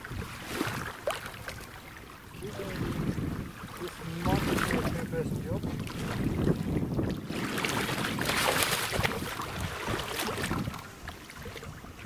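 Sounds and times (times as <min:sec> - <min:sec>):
shallow water splashing: 0:00.0 - 0:12.0
wind rumble on microphone: 0:00.0 - 0:12.0.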